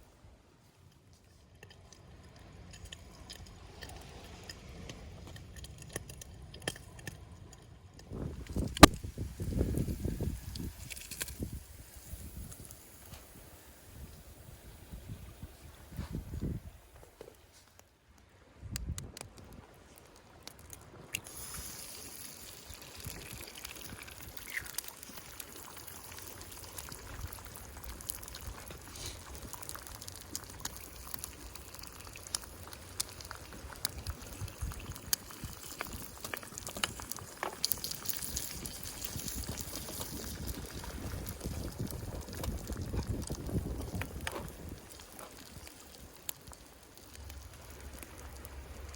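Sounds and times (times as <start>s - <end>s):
liquid sounds: 1.3s - 17.8s, 19.3s - 48.9s.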